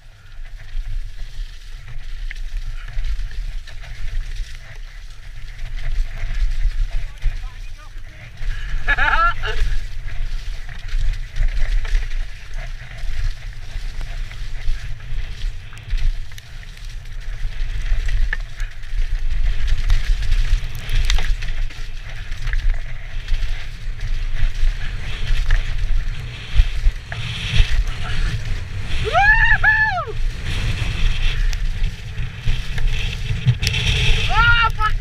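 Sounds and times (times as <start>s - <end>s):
tyres rolling on dirt trail: 0.0s - 35.0s
wind buffeting camera: 0.0s - 35.0s.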